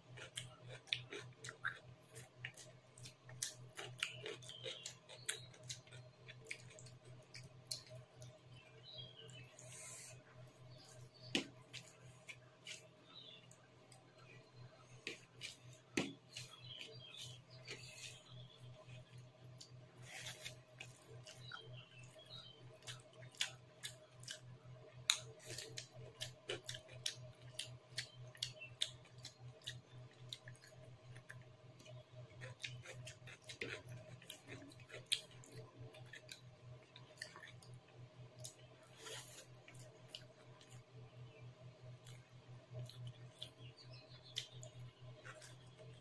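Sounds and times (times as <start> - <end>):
chewing with wet mouth clicks: 0.0 - 9.6, 10.7 - 41.0, 41.8 - 46.0.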